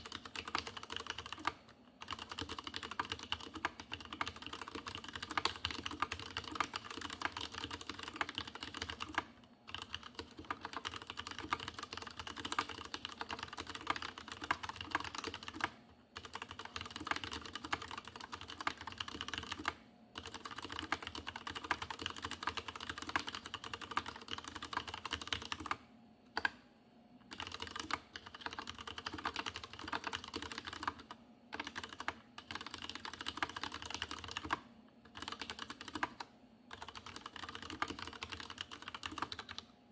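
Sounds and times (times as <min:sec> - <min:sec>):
typing on mechanical keyboard: 0:00.0 - 0:25.8, 0:27.3 - 0:39.7.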